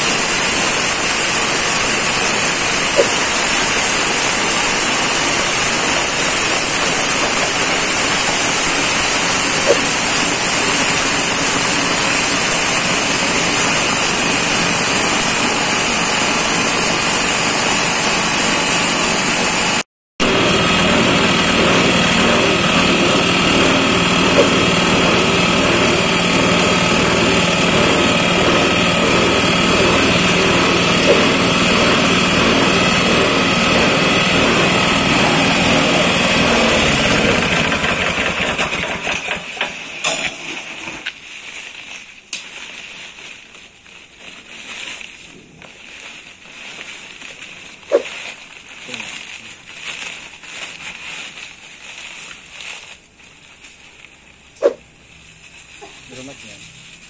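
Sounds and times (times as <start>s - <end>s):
small petrol engine running: 0.0s - 41.2s, 42.3s - 57.0s.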